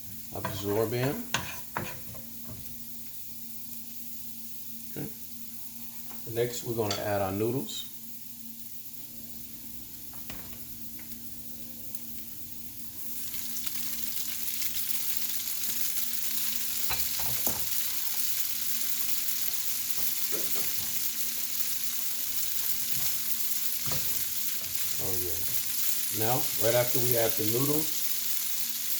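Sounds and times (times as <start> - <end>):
garlic sizzling in oil: 0.0 - 28.9.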